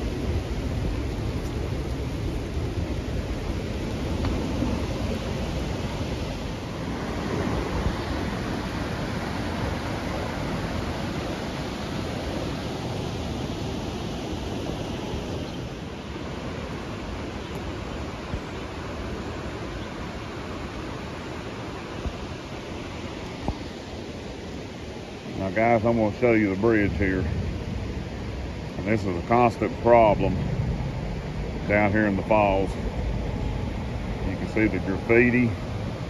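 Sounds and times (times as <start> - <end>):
fast river rushing: 0.0 - 36.0.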